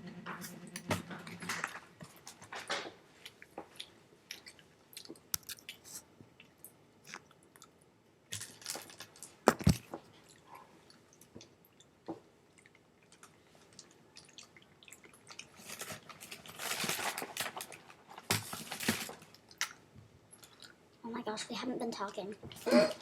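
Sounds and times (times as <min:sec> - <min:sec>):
chewing crunchy crackers: 0:01.5 - 0:20.9.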